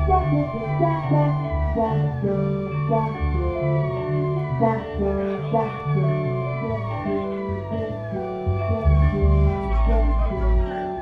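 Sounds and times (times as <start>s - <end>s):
deep bass line: 0.0s - 11.0s
electric guitar: 0.0s - 11.0s.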